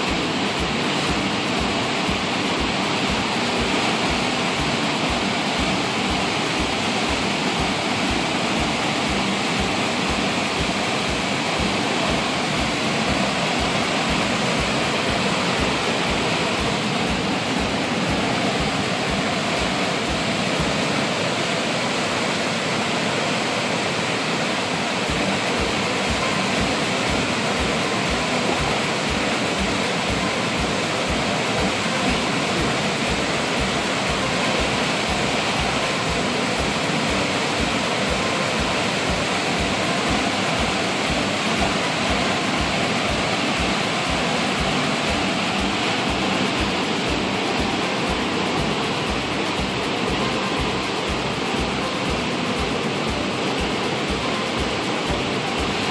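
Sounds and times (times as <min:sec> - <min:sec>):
water rushing through rapids: 0:00.0 - 0:55.9.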